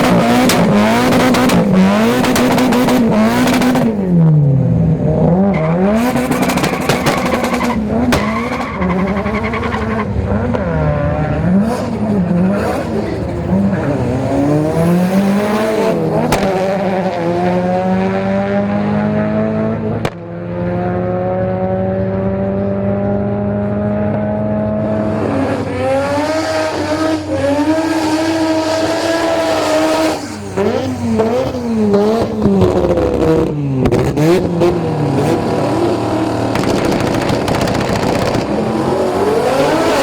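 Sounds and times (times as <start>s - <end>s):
drag racing engines at full throttle: 0.0s - 40.0s.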